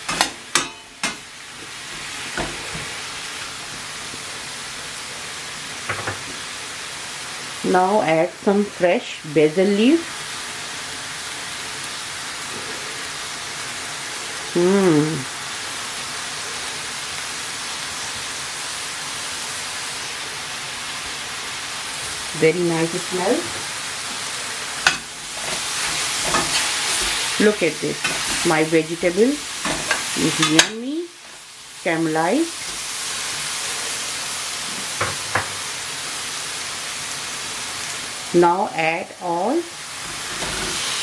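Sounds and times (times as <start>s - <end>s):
vegetables sizzling in a frying pan: 0.0s - 41.0s.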